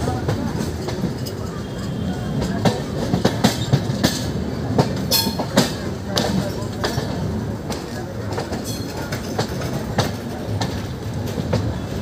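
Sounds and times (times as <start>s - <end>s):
train wheels rumbling on rails: 0.0s - 12.0s
wheels clicking over rail joints: 2.3s - 12.0s.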